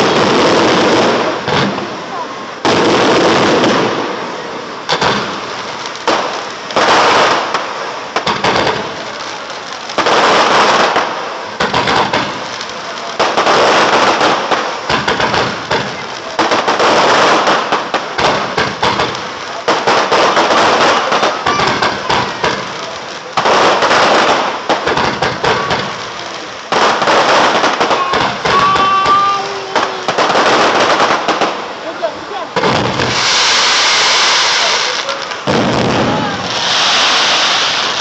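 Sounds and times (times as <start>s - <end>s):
fireworks bangs and bursts: 0.0s - 38.0s.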